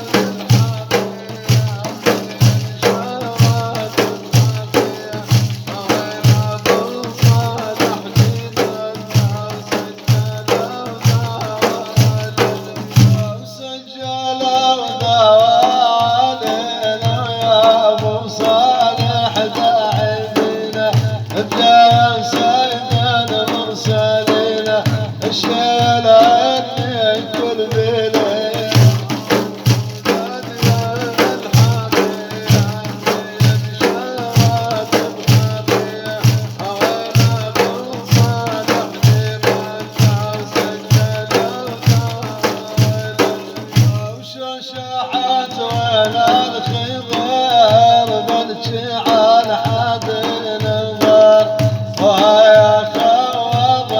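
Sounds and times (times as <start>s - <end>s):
low drum beat: 0.0s - 44.3s, 44.9s - 53.9s.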